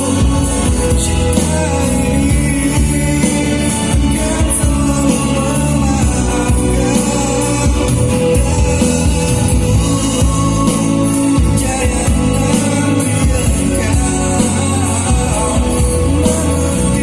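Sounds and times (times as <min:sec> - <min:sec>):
song with singing over sound system: 0:00.0 - 0:17.0.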